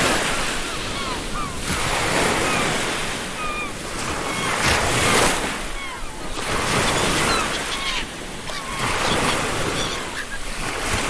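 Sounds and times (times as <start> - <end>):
ocean surf washing onto beach: 0.0 - 11.0
gulls crying: 0.2 - 11.0.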